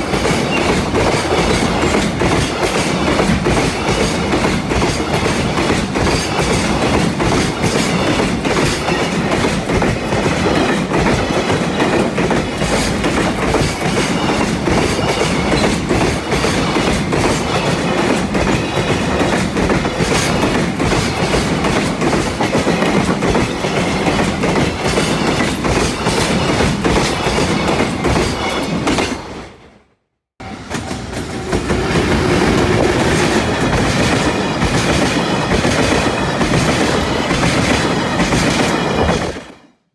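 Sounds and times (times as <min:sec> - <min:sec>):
train wheels clattering over rails: 0:00.0 - 0:29.7, 0:30.4 - 0:39.7.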